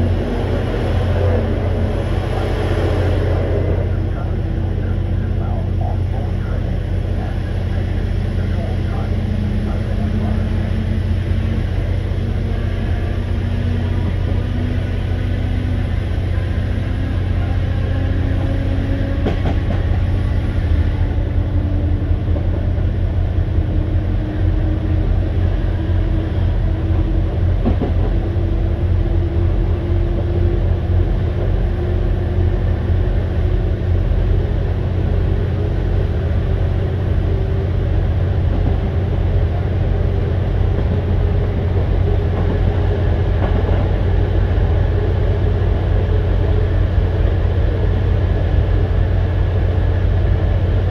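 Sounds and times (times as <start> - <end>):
train diesel engine rumble: 0.0 - 50.9.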